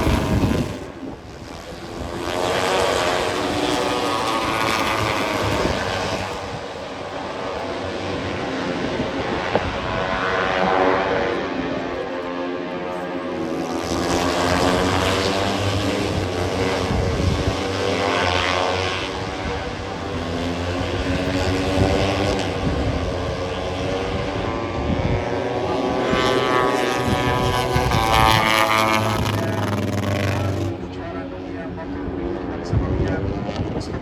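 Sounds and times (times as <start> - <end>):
racing motorcycles passing at high revs: 0.0 - 34.0.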